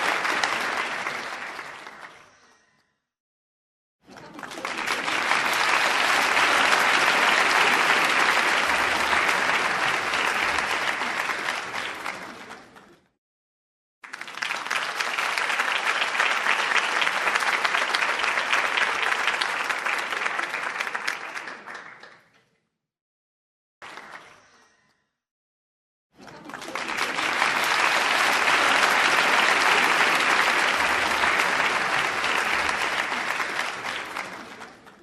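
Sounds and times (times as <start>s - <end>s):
audience applause: 0.0s - 2.3s, 4.1s - 12.8s, 14.0s - 22.3s, 26.2s - 35.0s.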